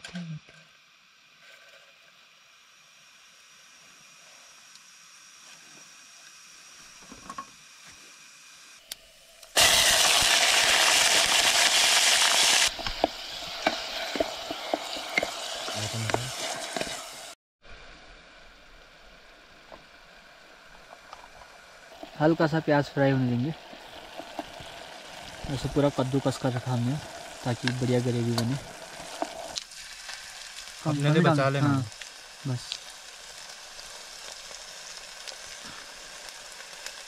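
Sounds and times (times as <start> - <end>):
onion sizzling in hot oil: 0.3 - 37.0.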